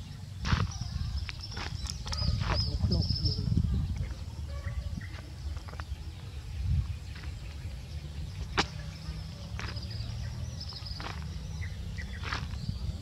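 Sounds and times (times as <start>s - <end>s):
wind on the microphone: 0.0s - 13.0s.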